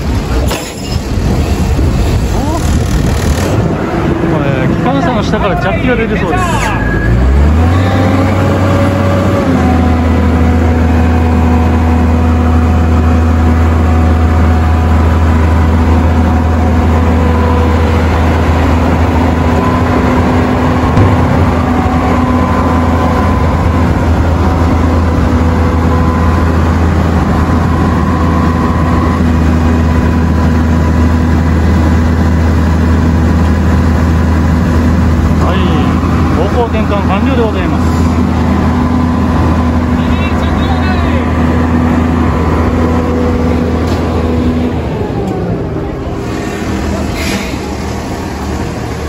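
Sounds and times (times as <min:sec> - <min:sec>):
diesel locomotive engine running: 0:00.0 - 0:49.0.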